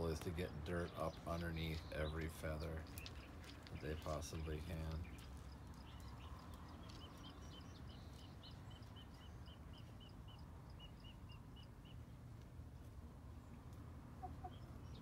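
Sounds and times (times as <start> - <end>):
low outdoor hum: 0.0 - 15.0
small bird chirping: 0.8 - 12.3, 13.4 - 15.0.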